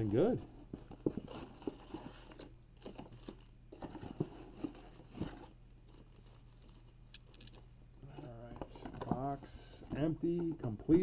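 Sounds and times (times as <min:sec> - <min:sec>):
cards rustling and tapping: 0:00.7 - 0:11.0.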